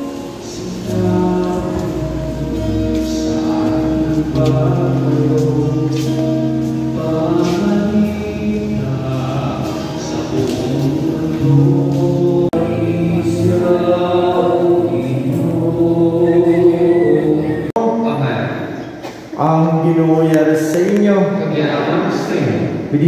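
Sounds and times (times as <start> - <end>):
congregation singing a hymn: 0.0 - 22.8.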